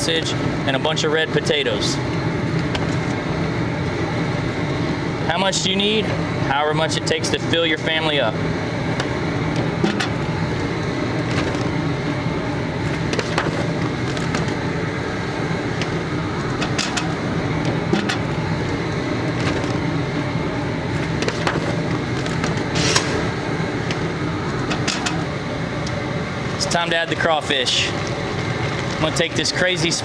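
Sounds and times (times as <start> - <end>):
gas burner running: 0.0 - 30.0
water at a rolling boil: 0.0 - 30.0.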